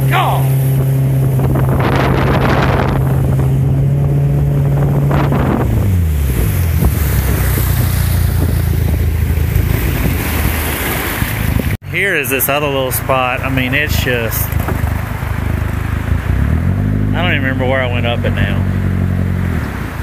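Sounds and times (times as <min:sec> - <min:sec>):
outboard boat engine: 0:00.0 - 0:20.0
water and wind rushing: 0:00.0 - 0:20.0.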